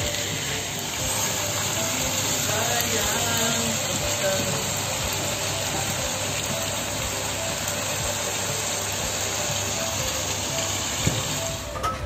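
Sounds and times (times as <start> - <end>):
meat sizzling in a wok: 0.0 - 11.8
faint background music: 0.0 - 12.0.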